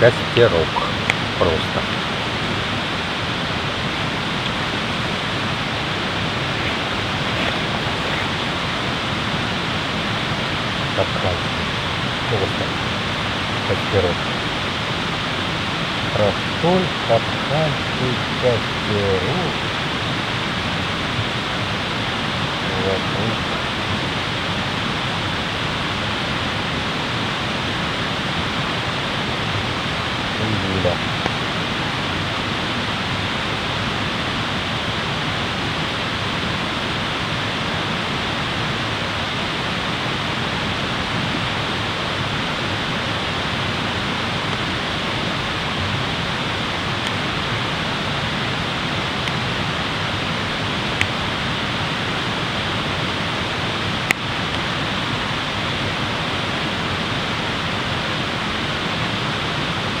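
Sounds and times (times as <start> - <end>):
running water rushing: 0.0 - 60.0.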